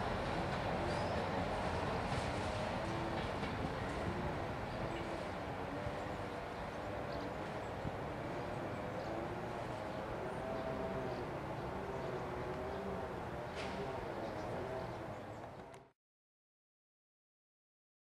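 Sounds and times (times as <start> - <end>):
distant train running: 0.0 - 15.9.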